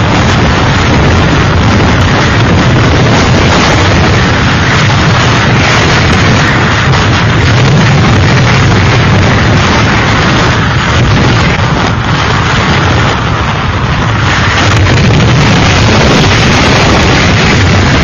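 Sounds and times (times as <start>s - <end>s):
heavy low rumble: 0.0s - 18.0s
rushing storm noise: 0.0s - 18.0s.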